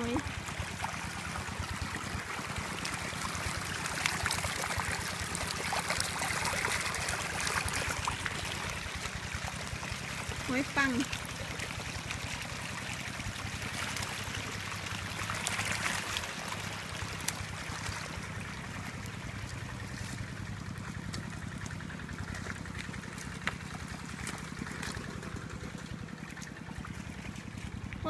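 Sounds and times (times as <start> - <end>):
water pump engine droning: 0.0 - 28.0
water trickling through mud: 0.0 - 28.0.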